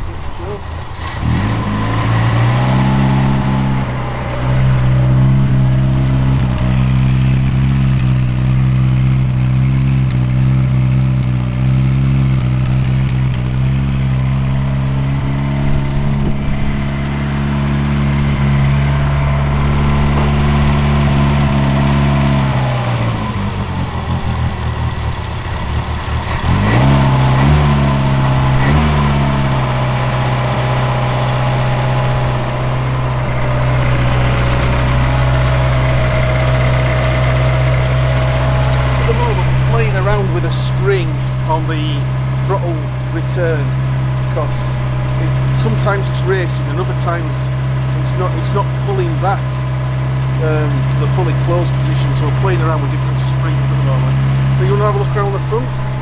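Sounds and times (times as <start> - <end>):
small car engine running: 0.0 - 56.0.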